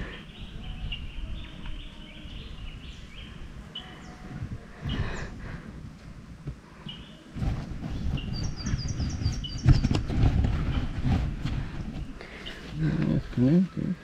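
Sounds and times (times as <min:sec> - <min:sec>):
birds chirping: 0:00.0 - 0:05.8, 0:06.5 - 0:14.0
low rumbling noise: 0:00.0 - 0:14.0.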